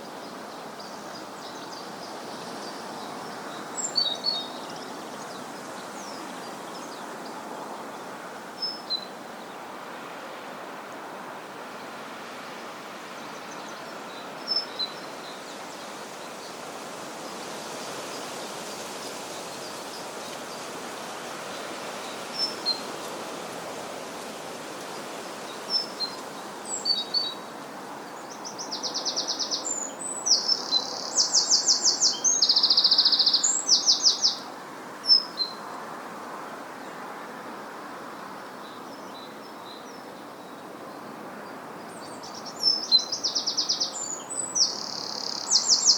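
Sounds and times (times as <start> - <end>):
outdoor background hiss: 0.0 - 45.9.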